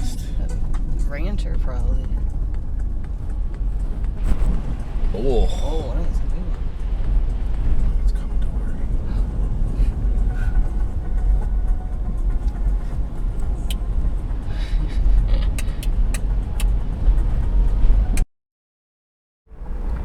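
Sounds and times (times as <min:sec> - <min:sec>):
engine and tyres rumbling: 0:00.0 - 0:18.3, 0:19.5 - 0:20.0.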